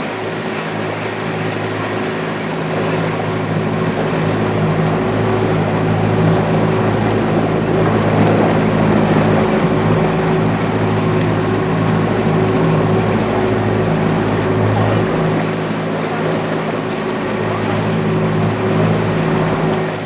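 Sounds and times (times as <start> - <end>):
boat engine running: 0.0 - 20.0
water noise: 0.0 - 20.0.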